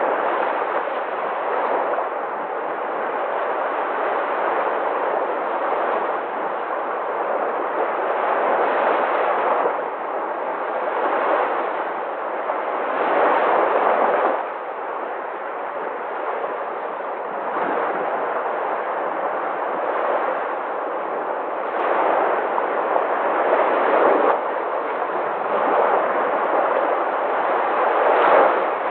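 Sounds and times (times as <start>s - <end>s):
waves washing: 0.0s - 28.9s.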